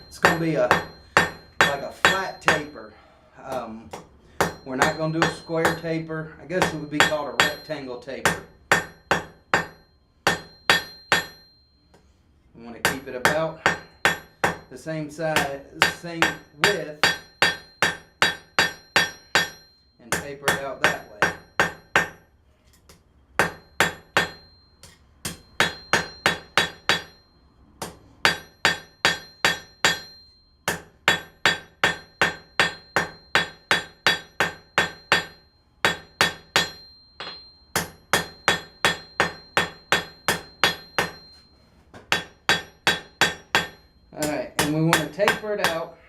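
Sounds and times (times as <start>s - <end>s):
hammer striking steel on anvil: 0.0s - 12.1s, 12.7s - 46.0s.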